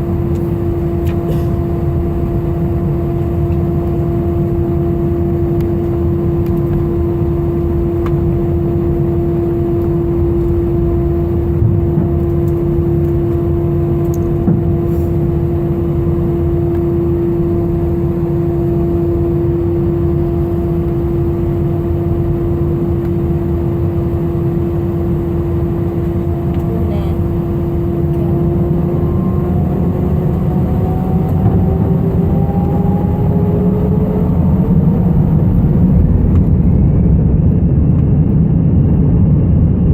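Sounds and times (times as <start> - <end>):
jet engine rumble: 0.0 - 39.9
jet engine whine: 0.0 - 39.9.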